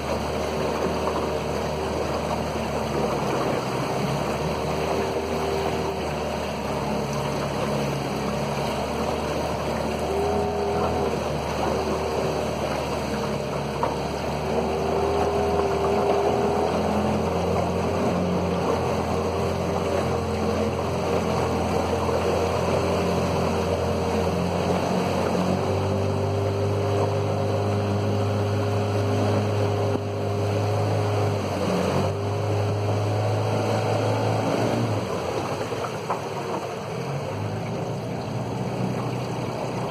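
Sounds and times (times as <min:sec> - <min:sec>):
outboard motor running: 0:00.0 - 0:39.9
water rushing past hull: 0:00.0 - 0:39.9.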